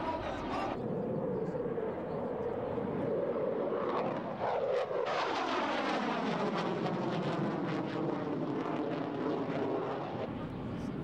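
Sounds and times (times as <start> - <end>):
fighter jet flying past: 0.0 - 10.4.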